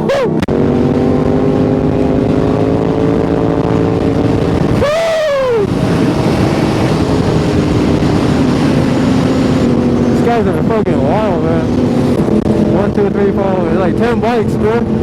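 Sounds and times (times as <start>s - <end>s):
motorcycle engine running: 0.0s - 15.0s
wind rushing: 0.0s - 15.0s.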